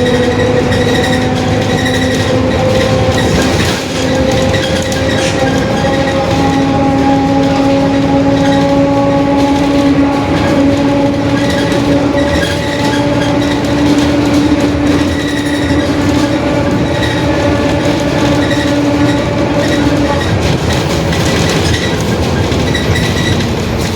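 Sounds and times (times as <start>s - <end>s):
bus differential whining: 0.0s - 23.9s
bus engine: 0.0s - 23.9s
road noise: 0.0s - 23.9s.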